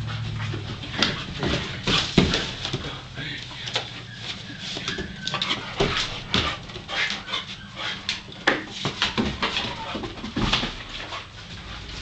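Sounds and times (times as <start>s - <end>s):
clicks and scuffs on wooden deck: 0.0s - 12.0s
puppy sounds: 0.0s - 12.0s.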